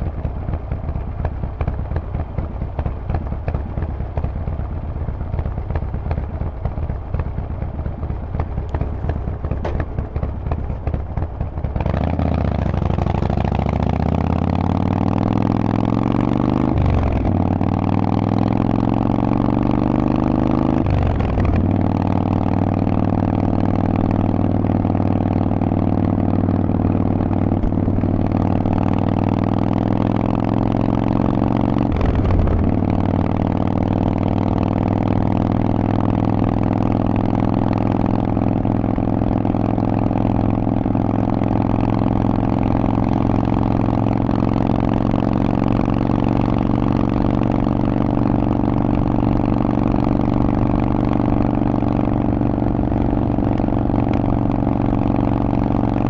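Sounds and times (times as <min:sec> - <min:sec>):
motorcycle engine revving under load: 0:05.8 - 0:56.0.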